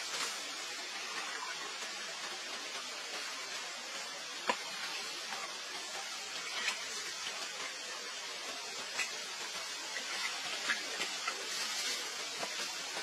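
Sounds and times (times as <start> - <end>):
water hissing: 0.0 - 13.0.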